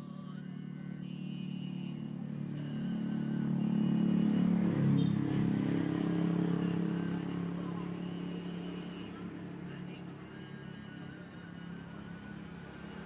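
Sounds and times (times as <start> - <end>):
vehicle engine approaching: 0.0 - 13.0.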